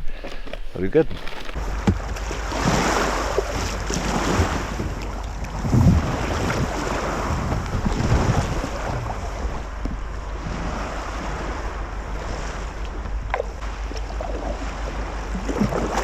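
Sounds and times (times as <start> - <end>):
lake waves splashing: 0.0 - 16.0
wind buffeting microphone: 0.0 - 16.0.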